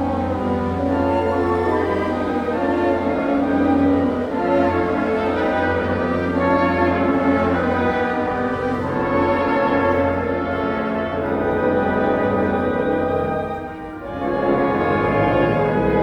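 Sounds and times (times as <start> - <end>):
wind ensemble playing held chords: 0.0 - 16.0.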